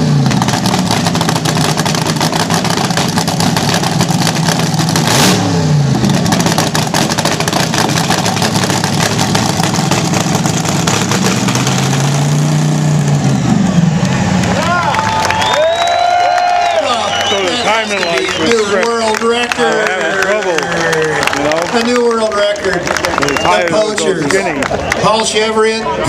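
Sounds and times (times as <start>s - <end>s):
dragster engine cackling: 0.0s - 25.4s.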